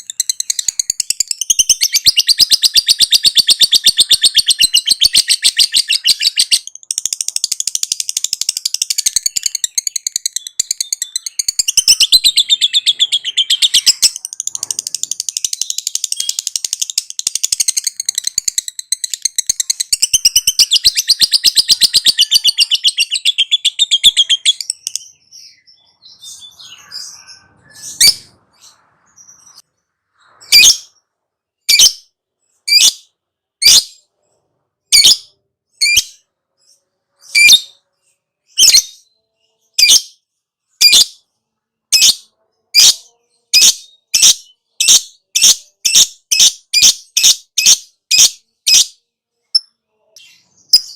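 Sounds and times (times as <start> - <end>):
bird sharp chirps: 0.0 - 41.3, 49.6 - 50.9.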